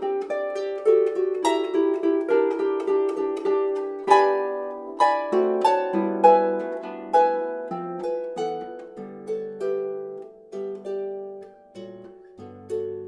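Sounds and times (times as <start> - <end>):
harp plucked notes: 0.0 - 13.0.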